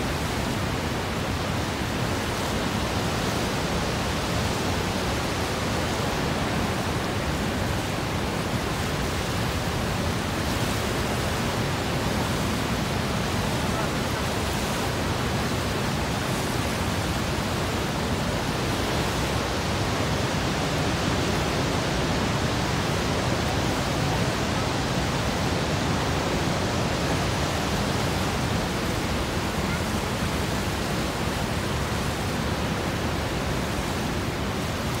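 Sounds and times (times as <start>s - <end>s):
rapids rushing: 0.0s - 35.0s
waterfall roar: 0.0s - 35.0s.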